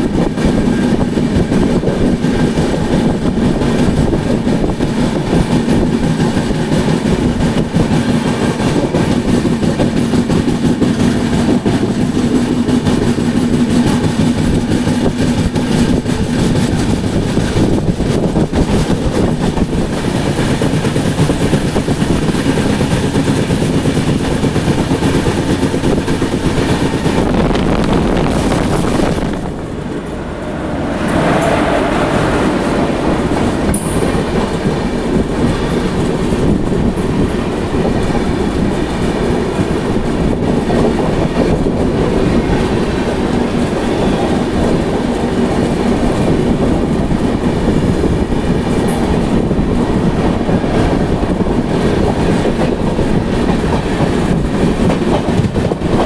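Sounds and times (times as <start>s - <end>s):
train rumbling at speed: 0.0s - 56.0s
wheels clattering on rails: 0.0s - 56.0s.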